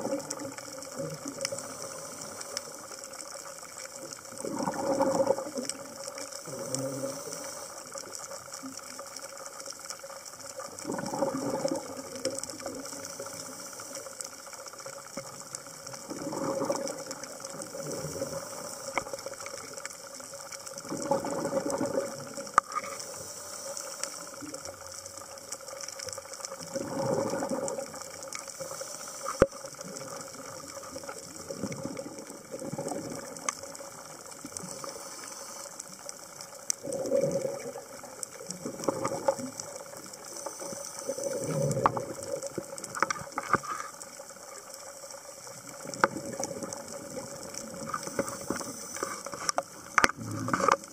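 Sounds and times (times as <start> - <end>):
exhaled bubbles underwater: 0.0 - 50.9.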